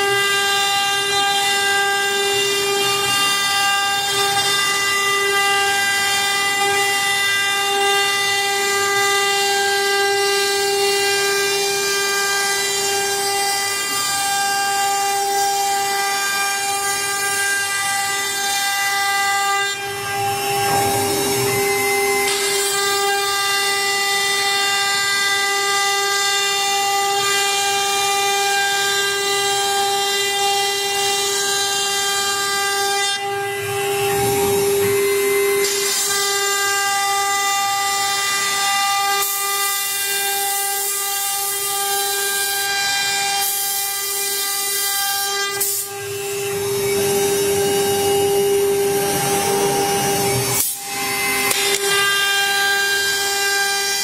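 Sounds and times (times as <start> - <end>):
router spindle whining: 0.0 - 54.0.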